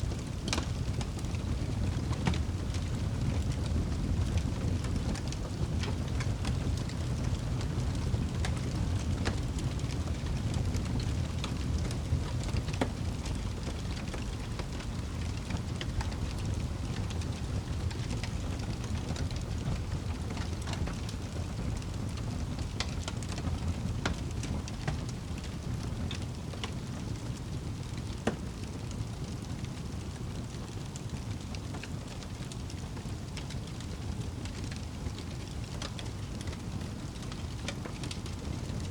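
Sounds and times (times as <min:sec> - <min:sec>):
fire crackling and popping: 0:00.0 - 0:38.9
fire flames rumbling: 0:00.0 - 0:38.9.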